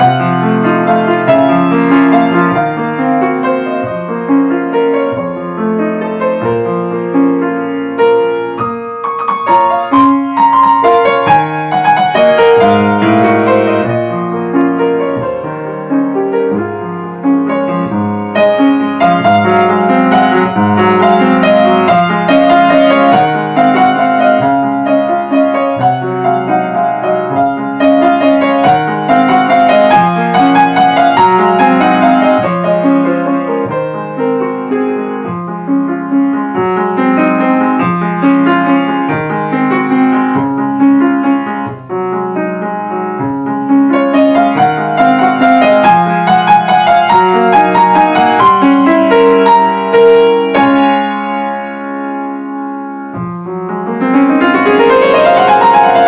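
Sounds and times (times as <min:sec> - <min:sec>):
solo piano waltz: 0:00.0 - 0:56.0.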